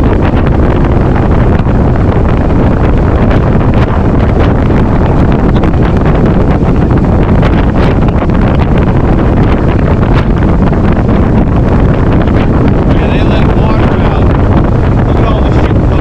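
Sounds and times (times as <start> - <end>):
boat motor: 0.0 - 16.0
water noise: 0.0 - 16.0
wind buffeting microphone: 0.0 - 16.0.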